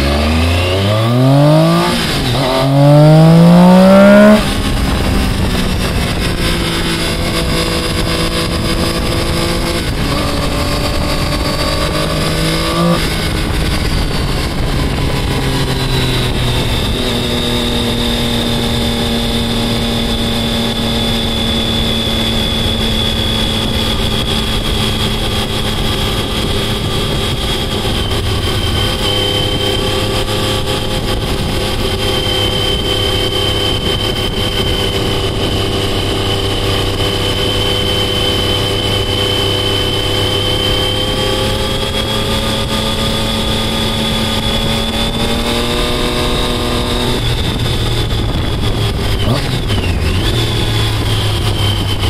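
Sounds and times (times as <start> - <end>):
motorcycle engine revving: 0.0 - 52.0
wind noise: 0.0 - 52.0.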